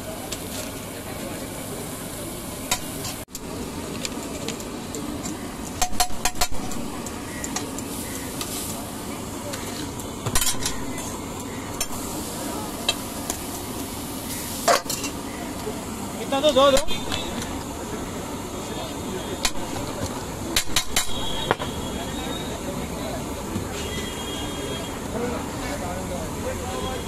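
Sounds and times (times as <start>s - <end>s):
pizzas sizzling on griddle: 0.0s - 27.0s.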